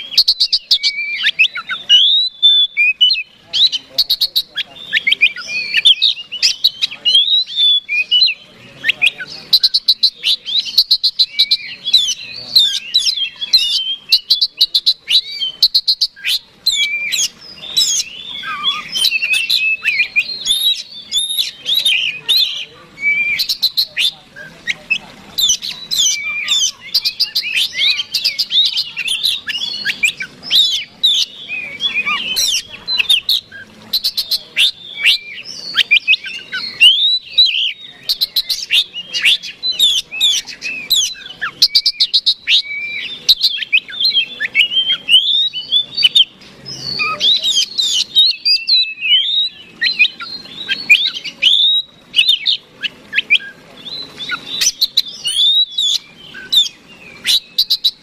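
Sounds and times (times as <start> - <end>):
songbird singing whistles and clicks: 0.0 - 58.0.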